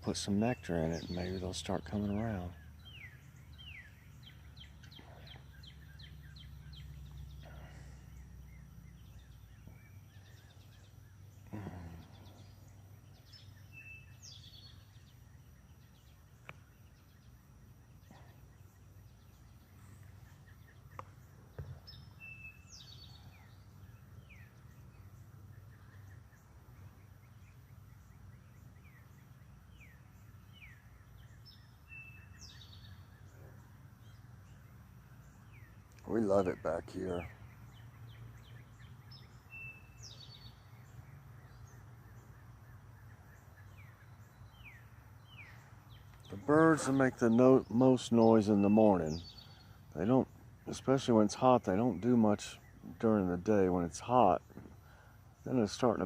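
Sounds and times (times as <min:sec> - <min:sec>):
low steady hum: 0:00.0 - 0:56.0
songbirds calling and singing: 0:00.0 - 0:56.0.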